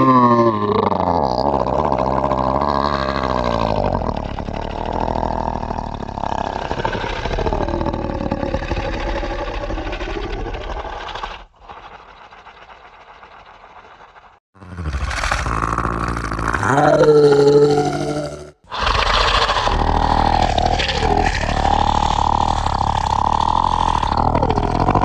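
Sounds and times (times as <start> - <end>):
monster growling: 0.0 - 25.0.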